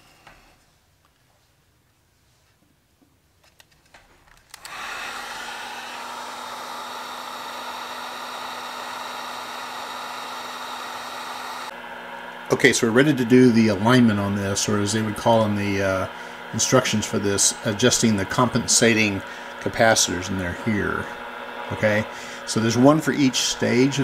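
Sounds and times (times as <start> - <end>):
heat gun blowing: 4.5 - 24.0.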